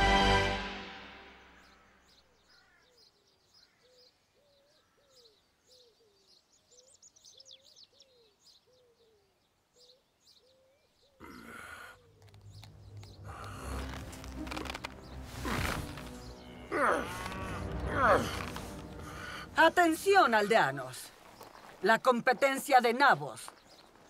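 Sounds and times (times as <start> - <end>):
faint birdsong: 1.2 - 24.0.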